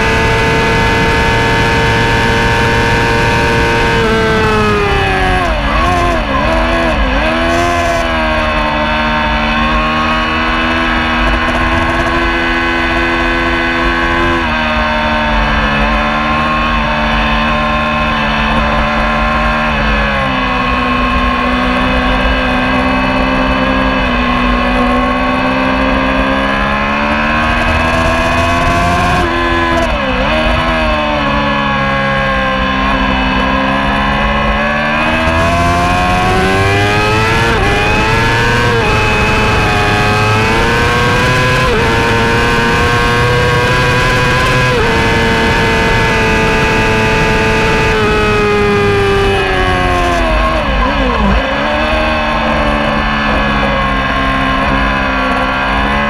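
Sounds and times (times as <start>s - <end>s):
racing motorcycle engine at high revs: 0.0s - 56.0s.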